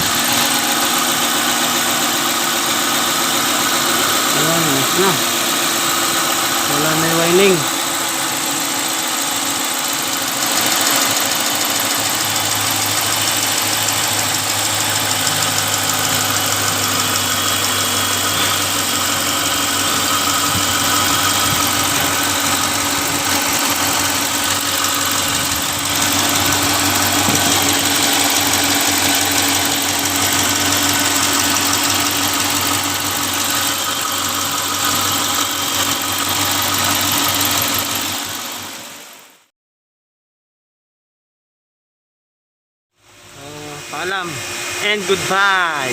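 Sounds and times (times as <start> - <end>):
car engine idling: 0.0 - 39.4, 43.0 - 45.9.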